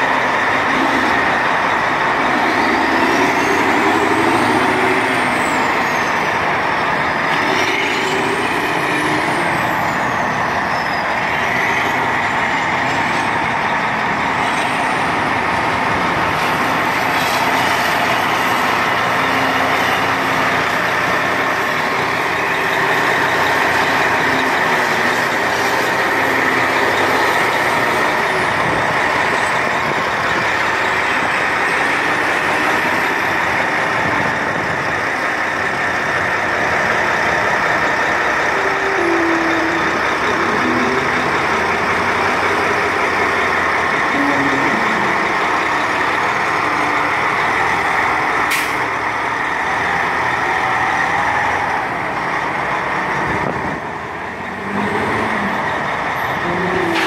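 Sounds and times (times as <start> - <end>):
heavy diesel engines droning: 0.0 - 57.0
high engine whine: 0.0 - 57.0.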